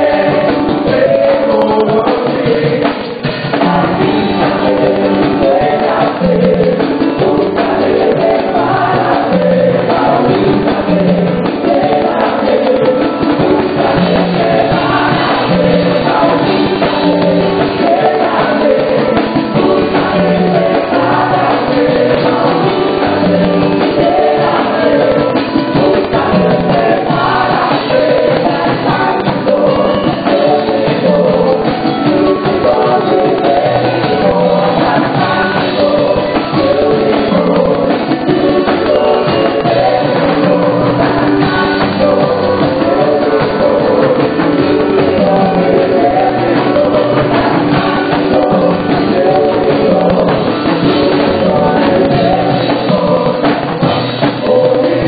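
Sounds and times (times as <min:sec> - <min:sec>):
hand percussion: 0:00.0 - 0:55.0
keyboard: 0:00.0 - 0:55.0
people singing worship song: 0:00.0 - 0:55.0.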